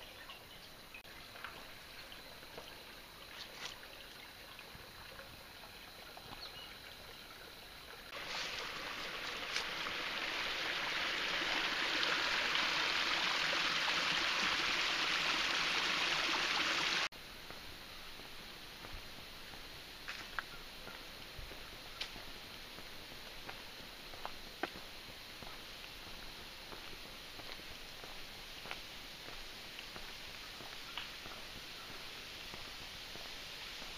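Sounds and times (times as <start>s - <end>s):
stream running over rocks: 1.1s - 17.1s, 20.0s - 33.9s.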